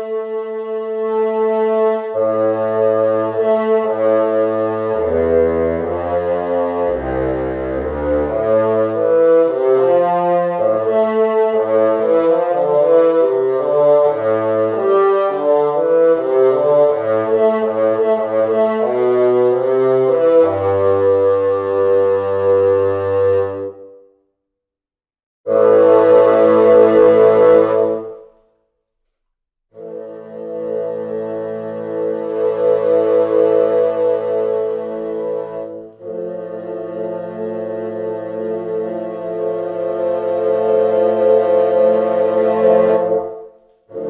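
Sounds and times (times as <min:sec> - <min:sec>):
woodwinds playing held chords: 0:00.0 - 0:24.0, 0:25.5 - 0:28.3, 0:29.8 - 0:44.0.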